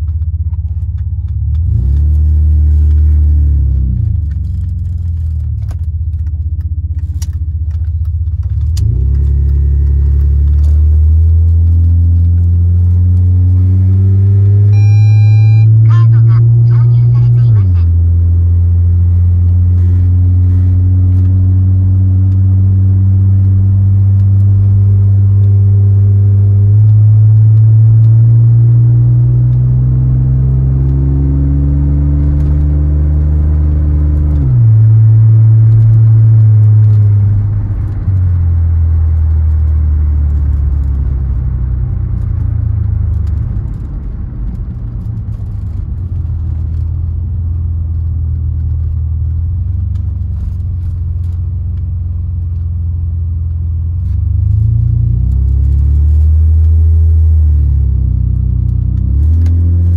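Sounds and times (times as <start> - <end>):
car engine while driving: 0.0 - 59.9.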